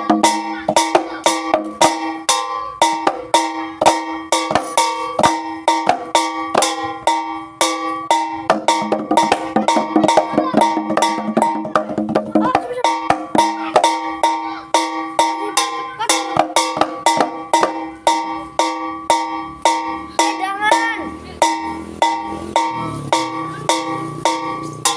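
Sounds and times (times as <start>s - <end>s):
bronze gongs ringing: 0.0s - 24.9s
drum and metal strokes: 0.0s - 24.9s.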